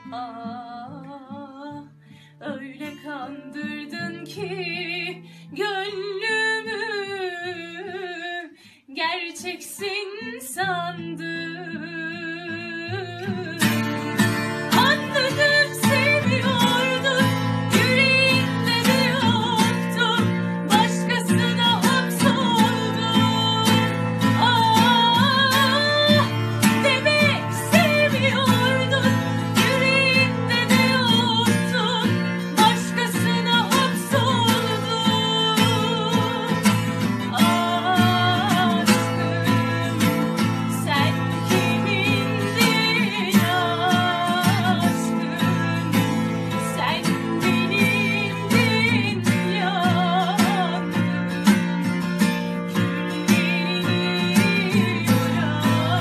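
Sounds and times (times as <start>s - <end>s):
woman singing with vibrato: 0.0s - 56.0s
acoustic guitar strumming: 10.1s - 56.0s.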